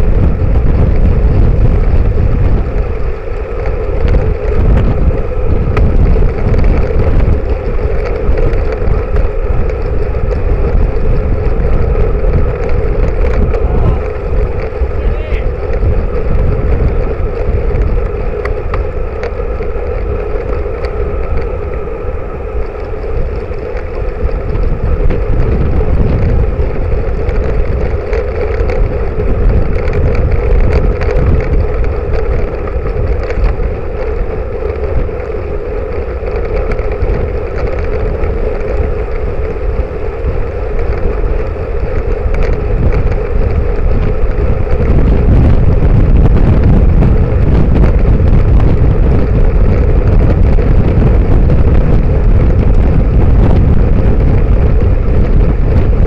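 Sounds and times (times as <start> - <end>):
tyres rumbling on tarmac: 0.0 - 56.0
wind buffeting microphone: 0.0 - 56.0.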